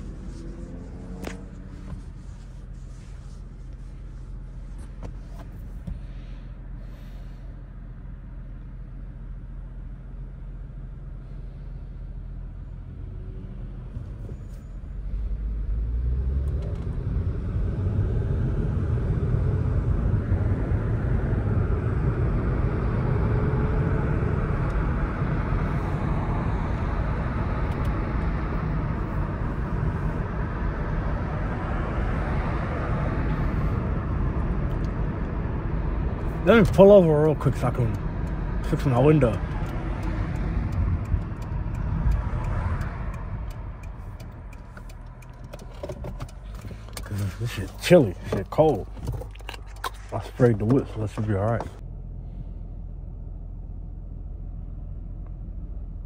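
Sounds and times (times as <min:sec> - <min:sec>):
car engine idling: 0:00.0 - 0:12.9, 0:18.5 - 0:56.0
road noise: 0:00.0 - 0:56.0.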